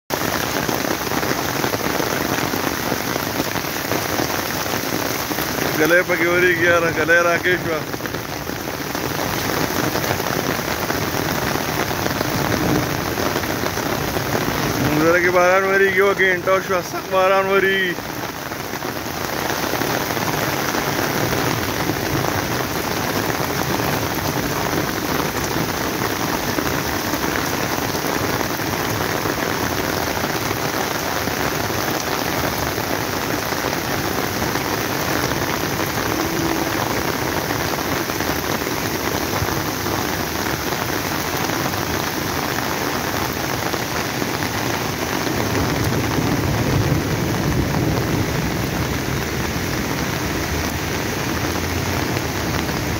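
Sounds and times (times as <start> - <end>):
floodwater rushing over rocks: 0.1 - 52.9
heavy rain pouring: 0.1 - 52.9.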